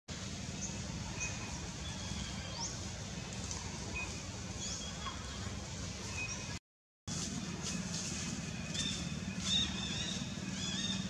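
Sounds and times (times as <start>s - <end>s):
birds chirping: 0.5s - 6.6s, 7.4s - 11.0s.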